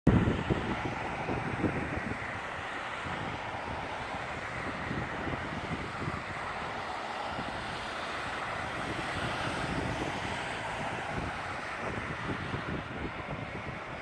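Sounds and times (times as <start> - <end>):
jet engines roaring: 0.1 - 14.0
wind buffeting microphone: 0.1 - 14.0.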